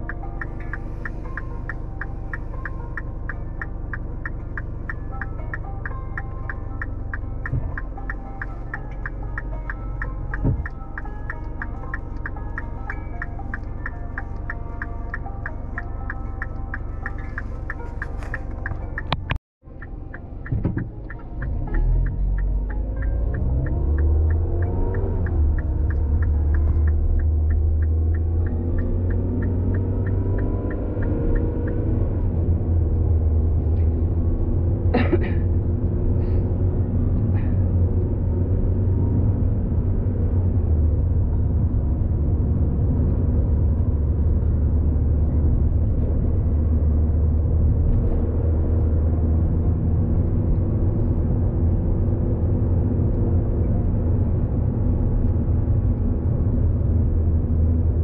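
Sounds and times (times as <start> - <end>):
car engine rumble: 0.0 - 58.0.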